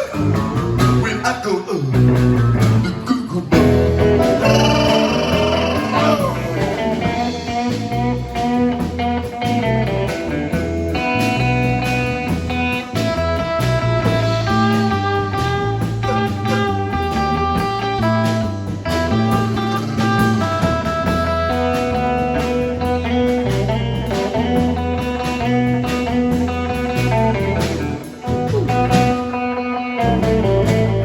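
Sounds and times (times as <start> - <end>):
bass guitar: 0.0 - 31.0
drums: 0.0 - 31.0
electric guitar lead: 3.6 - 31.0.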